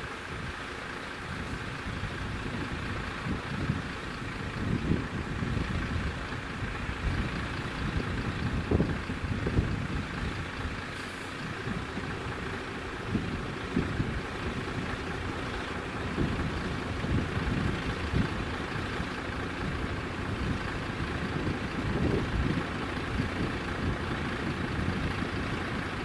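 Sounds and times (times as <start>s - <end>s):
diesel lorry engine idling: 0.0s - 26.0s
wind rumbling on microphone: 1.2s - 26.0s.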